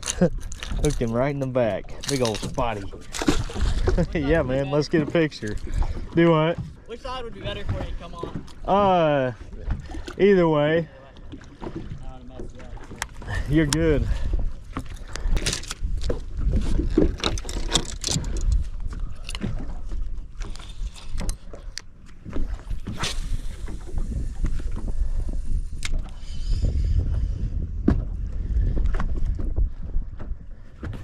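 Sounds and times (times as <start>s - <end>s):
wind rumbling on microphone: 0.0s - 10.2s, 11.6s - 21.6s, 22.2s - 31.0s.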